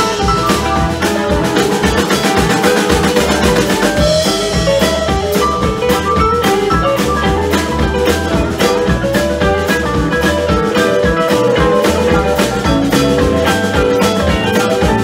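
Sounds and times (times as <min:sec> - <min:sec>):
drum kit steady beat: 0:00.0 - 0:15.0
electric guitars: 0:00.0 - 0:15.0
keyboards: 0:00.0 - 0:15.0
quick melodic notes: 0:00.0 - 0:15.0.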